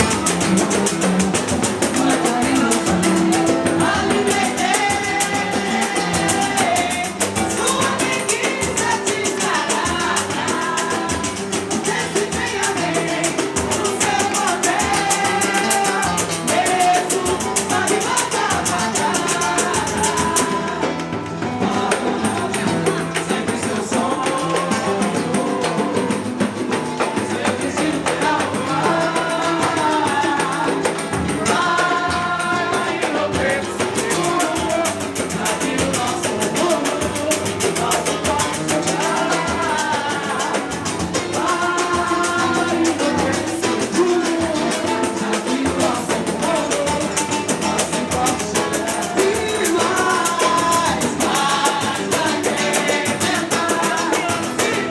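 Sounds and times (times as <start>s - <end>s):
person singing: 0.0s - 21.0s, 21.6s - 54.9s
hand percussion with jingles: 0.0s - 54.9s.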